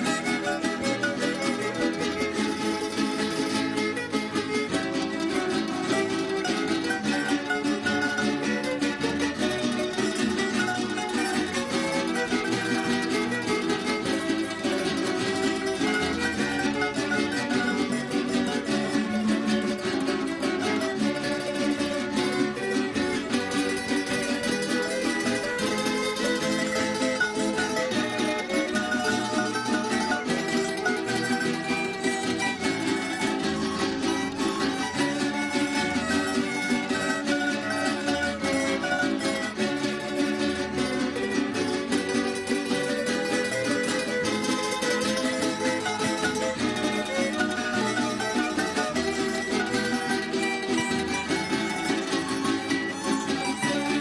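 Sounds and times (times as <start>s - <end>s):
string ensemble playing a waltz: 0.0s - 54.0s.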